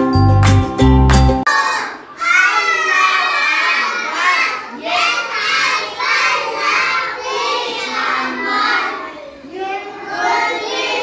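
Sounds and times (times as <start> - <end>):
children singing: 1.5 - 11.0.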